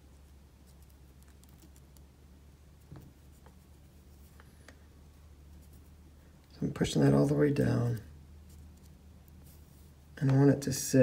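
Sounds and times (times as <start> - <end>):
fingers handling fur and thread: 0.0 - 10.6
faint low hum: 0.0 - 11.0.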